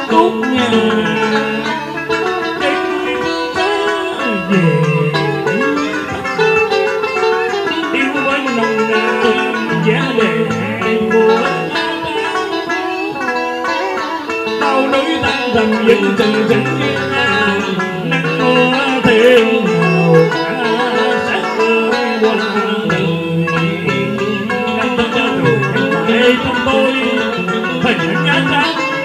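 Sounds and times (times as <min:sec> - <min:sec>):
man singing into microphone: 0:00.0 - 0:13.0, 0:14.5 - 0:29.0
plucked guitar: 0:00.0 - 0:29.0.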